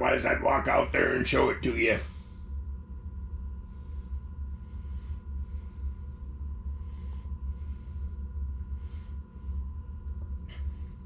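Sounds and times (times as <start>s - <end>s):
faint steady whine: 0.0s - 11.0s
heater burner droning: 0.0s - 11.0s.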